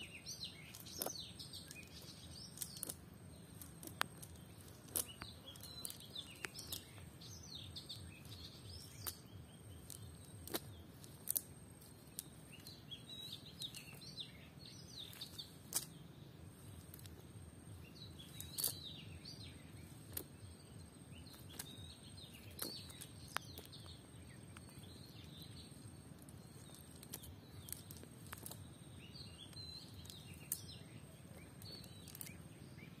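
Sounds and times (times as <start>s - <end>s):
low outdoor background noise: 0.0s - 33.0s
small birds chirping: 0.0s - 33.0s.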